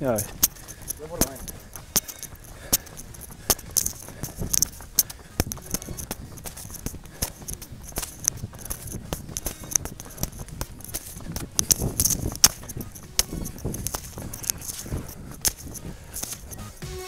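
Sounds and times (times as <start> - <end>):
gear rattling and jingling: 0.0 - 16.8
footsteps running on dirt path: 0.0 - 17.0.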